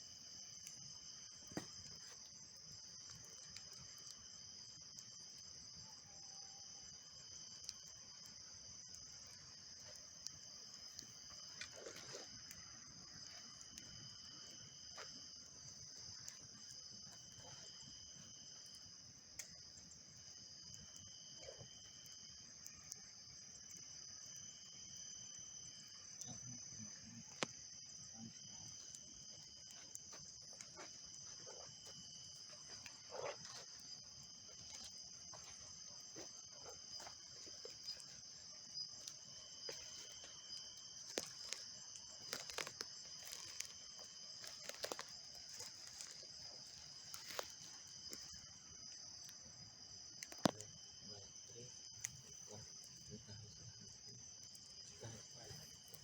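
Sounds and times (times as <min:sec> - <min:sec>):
campfire crackling and popping: 0:00.0 - 0:06.0, 0:06.6 - 0:50.8, 0:51.8 - 0:53.3
night insects singing: 0:00.0 - 0:56.0.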